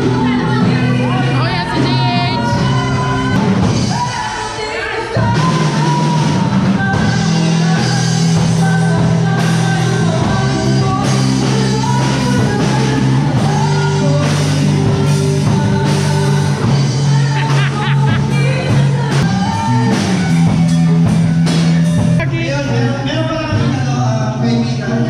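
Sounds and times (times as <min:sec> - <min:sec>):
person singing: 0:00.0 - 0:21.0
bass: 0:00.0 - 0:25.0
drums: 0:00.0 - 0:25.0
guitar: 0:00.0 - 0:25.0.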